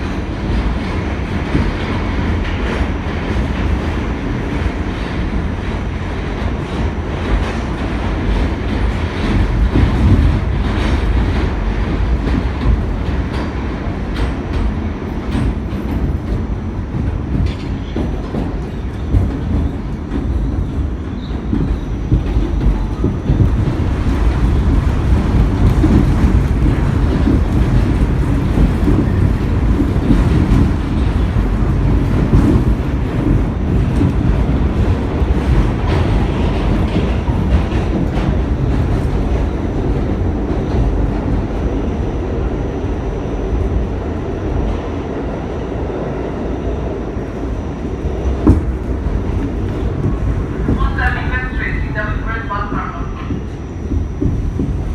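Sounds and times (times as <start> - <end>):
rail clicks and knocks: 0.0 - 54.9
train wheels rumbling on rail: 0.0 - 54.9.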